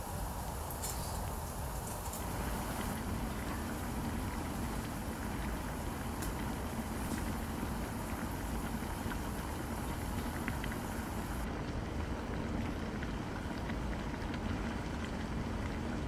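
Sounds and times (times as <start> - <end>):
gas burner flame rumble: 0.0 - 16.0
water boiling hard: 0.0 - 16.0.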